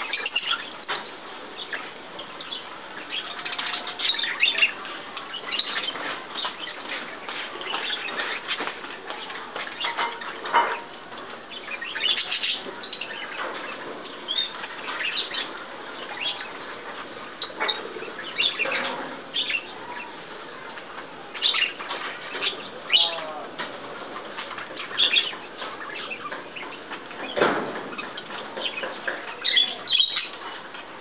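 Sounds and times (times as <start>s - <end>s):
background bird chatter: 0.0s - 31.0s
birds chirping and calling: 0.0s - 31.0s.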